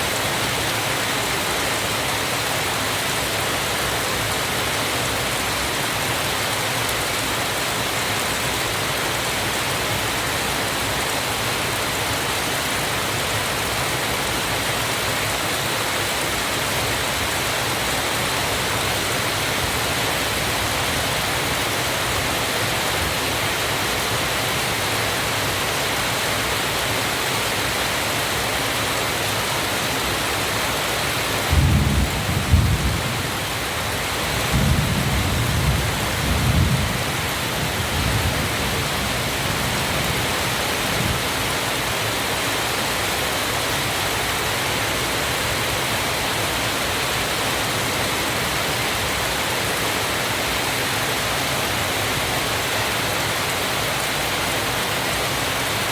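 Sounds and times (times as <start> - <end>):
waterfall rushing: 0.0 - 31.7, 38.4 - 55.9.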